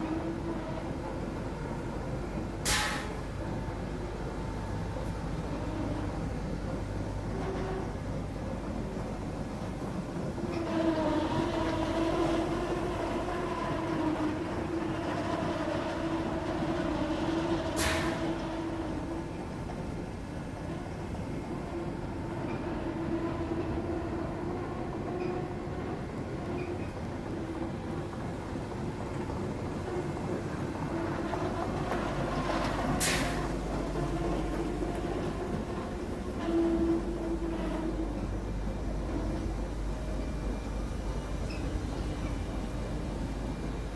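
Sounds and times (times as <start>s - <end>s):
mill machinery rumbling: 0.0s - 43.9s.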